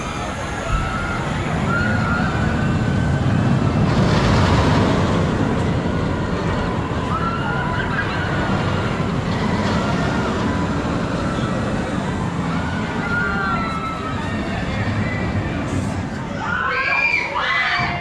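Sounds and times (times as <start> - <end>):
wind and track noise: 0.0 - 18.0.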